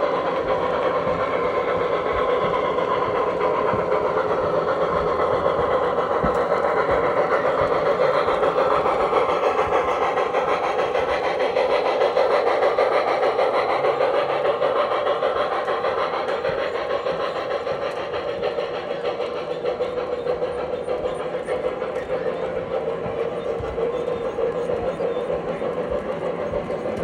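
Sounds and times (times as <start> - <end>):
train clattering on rails: 0.0 - 27.0.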